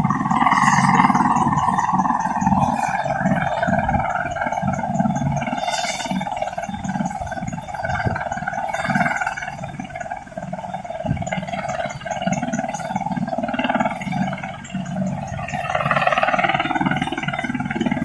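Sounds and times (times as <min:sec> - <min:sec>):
helicopter rotors and engine: 0:00.0 - 0:18.0.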